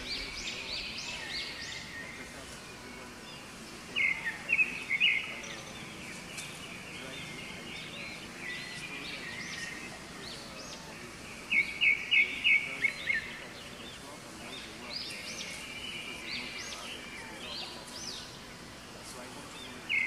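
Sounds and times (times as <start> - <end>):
forest background: 0.0 - 20.0.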